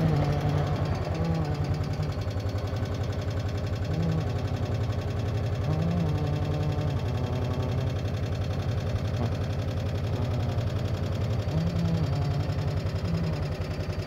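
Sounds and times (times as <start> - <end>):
person humming: 0.0 - 2.3, 3.8 - 8.4, 9.0 - 13.6
car engine throbbing: 0.0 - 14.0.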